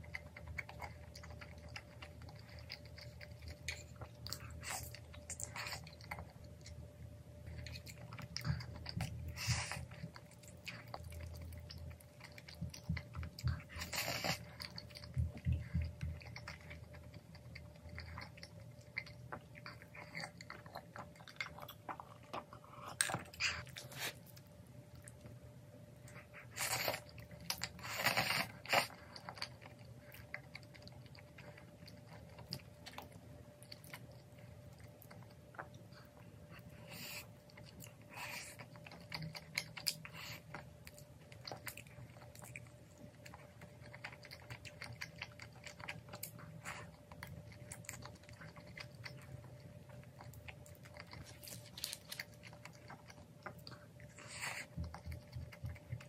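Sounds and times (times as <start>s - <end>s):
person chewing wetly: 0.0s - 56.0s.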